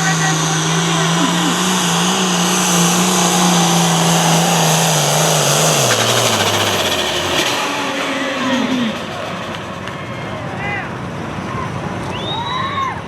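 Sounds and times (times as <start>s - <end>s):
tractor engine revving: 0.0s - 12.6s.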